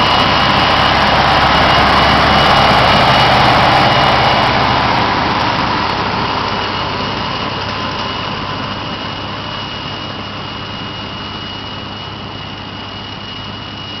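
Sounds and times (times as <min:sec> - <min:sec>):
tractor engine running: 0:00.0 - 0:13.8
high whine of hay tedder: 0:00.0 - 0:14.0.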